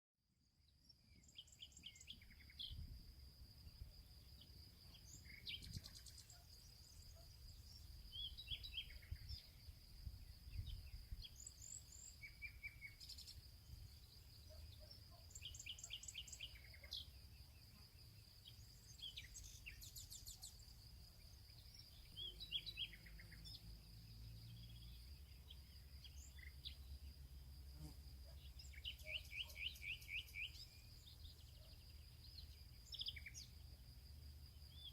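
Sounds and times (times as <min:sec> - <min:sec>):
small birds chirping: 0:00.7 - 0:34.9.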